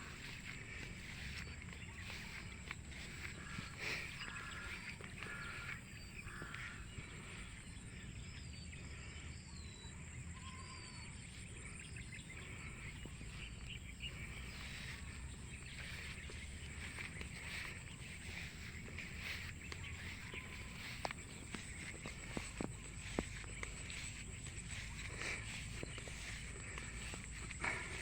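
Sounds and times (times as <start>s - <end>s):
steady low rumble: 0.0s - 10.3s, 11.1s - 28.0s
bird chirps: 0.0s - 28.0s.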